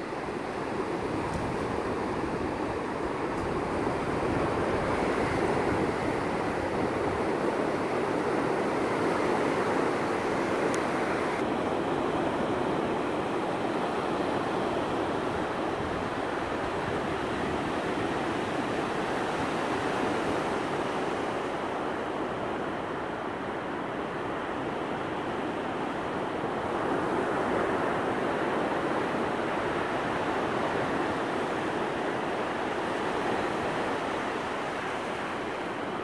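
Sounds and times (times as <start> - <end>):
surf waves breaking on beach: 0.0 - 36.0.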